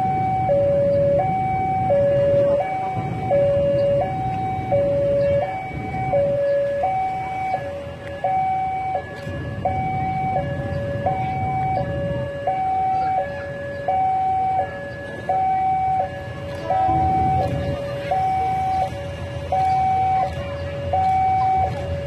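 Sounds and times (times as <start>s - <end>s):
two-tone railway warning alarm: 0.0s - 22.0s.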